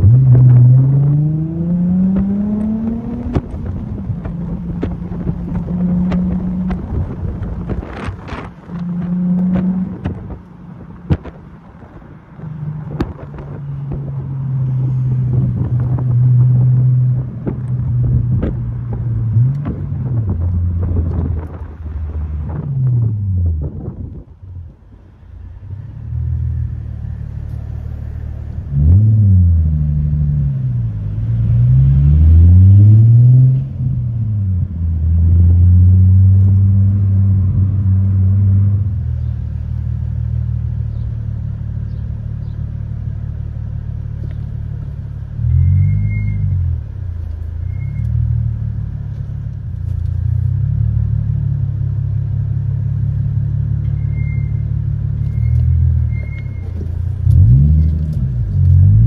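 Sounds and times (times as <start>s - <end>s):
car engine revving: 0.0s - 24.2s, 25.4s - 59.0s.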